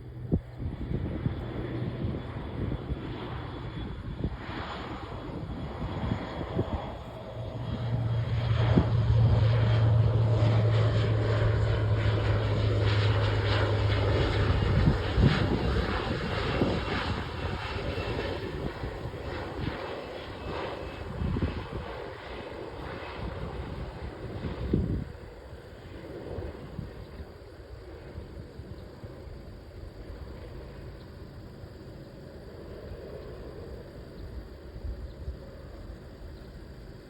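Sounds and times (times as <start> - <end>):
propeller aircraft passing: 0.0 - 37.0.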